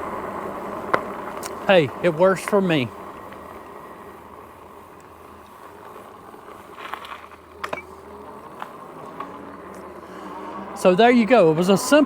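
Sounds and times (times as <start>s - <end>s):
e-bike motor humming: 0.0s - 12.0s.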